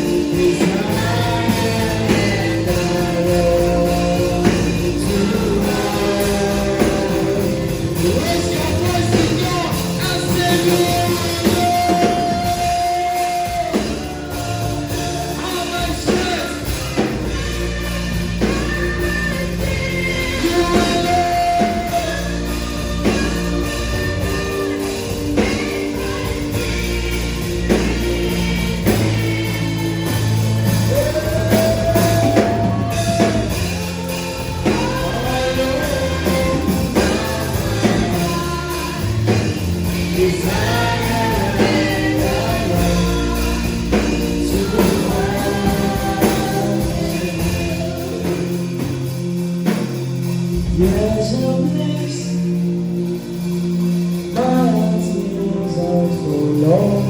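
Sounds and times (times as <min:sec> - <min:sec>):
person singing: 0:00.0 - 0:49.1, 0:50.6 - 0:57.0
slow band accompaniment: 0:00.0 - 0:57.0.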